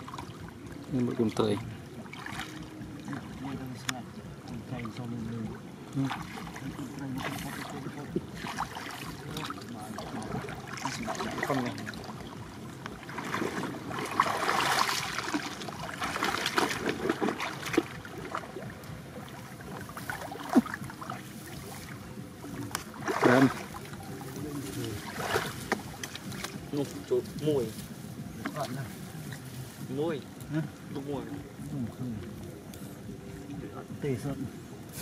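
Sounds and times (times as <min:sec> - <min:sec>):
stems rustling: 0:00.0 - 0:35.0
water sloshing and splashing: 0:00.0 - 0:35.0.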